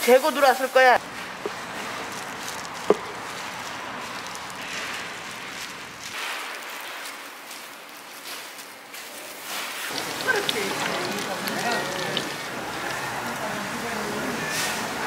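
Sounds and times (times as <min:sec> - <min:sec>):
rustling of meat in flour: 0:00.0 - 0:14.8.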